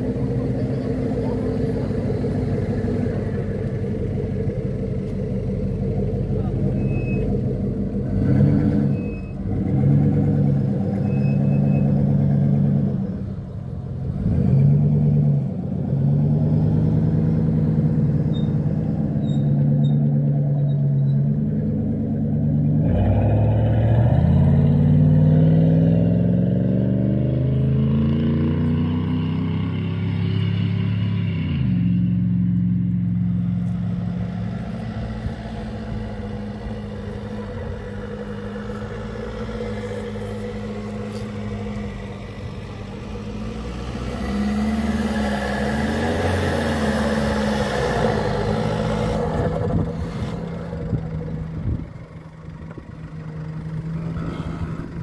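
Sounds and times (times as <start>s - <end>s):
suv engine revving: 0.0s - 55.0s.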